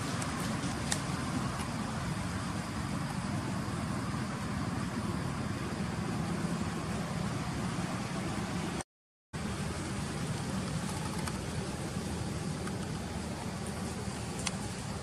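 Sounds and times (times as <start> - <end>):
low rumbling background noise: 0.0 - 8.8, 9.4 - 15.0.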